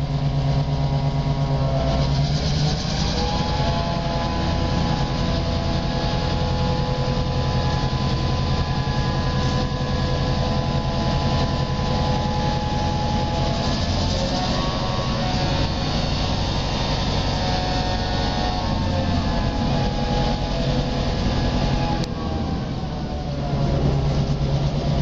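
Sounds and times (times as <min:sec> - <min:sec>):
diesel locomotive idling: 0:00.0 - 0:25.0
steady whine: 0:00.0 - 0:25.0.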